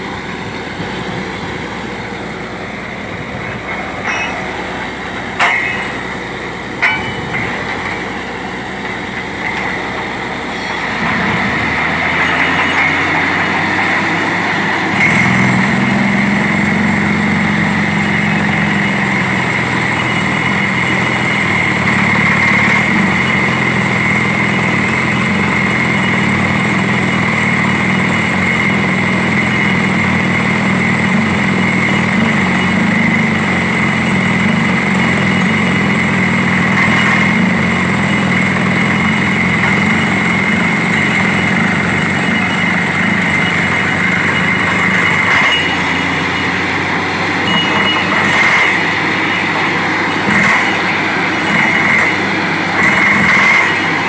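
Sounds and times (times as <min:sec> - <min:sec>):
drilling rig running: 0:00.0 - 0:54.0.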